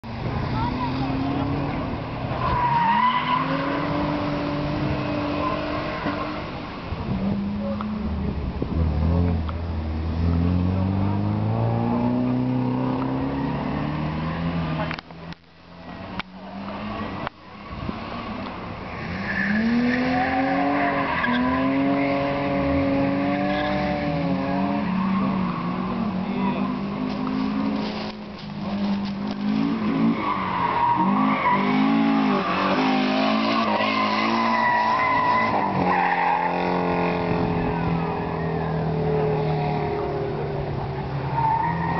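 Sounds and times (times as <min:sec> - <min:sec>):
car engine revving: 0:00.6 - 0:41.9.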